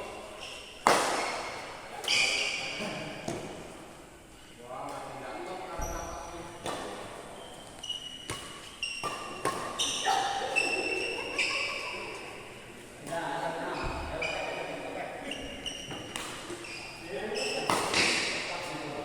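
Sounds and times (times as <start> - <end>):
shoes squeaking on court floor: 0.0 - 3.8, 5.4 - 19.0.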